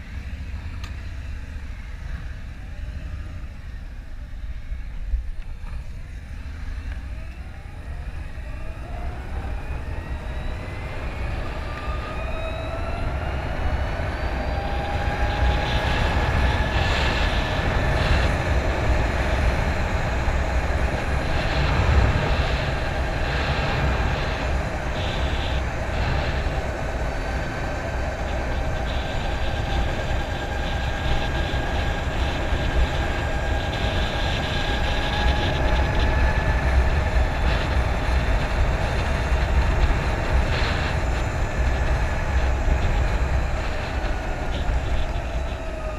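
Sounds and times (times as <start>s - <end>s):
electric motorcycle motor whine: 0.0s - 45.9s
wind rush on microphone: 0.0s - 45.9s.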